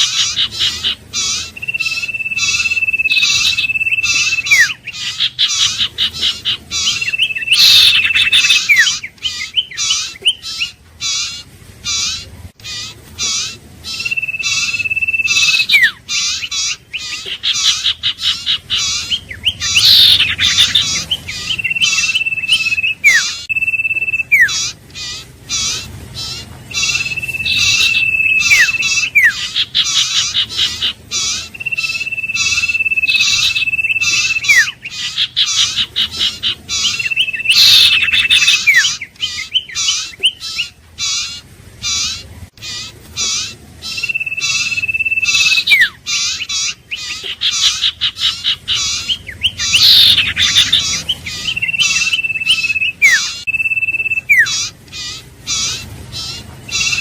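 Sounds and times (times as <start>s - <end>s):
bird chattering notes: 0.0s - 57.0s
bird whistling: 0.0s - 57.0s.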